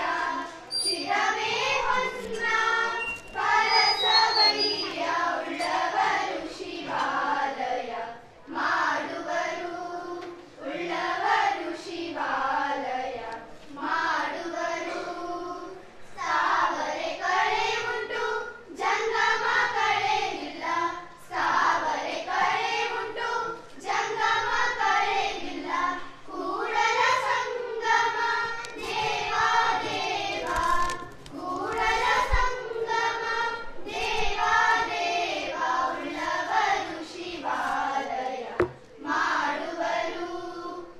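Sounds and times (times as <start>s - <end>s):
girls singing in unison: 0.0s - 40.9s.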